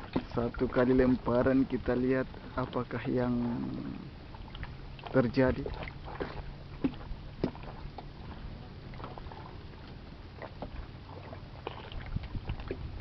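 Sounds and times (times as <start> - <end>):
faint steady low hum: 0.0 - 13.0
water lapping against wooden boat: 0.0 - 13.0.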